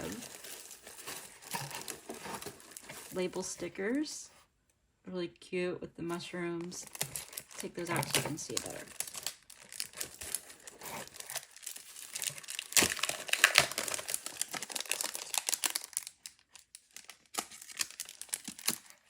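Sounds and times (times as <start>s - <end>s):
plastic sleeve crinkling: 0.0s - 4.1s, 6.6s - 19.0s.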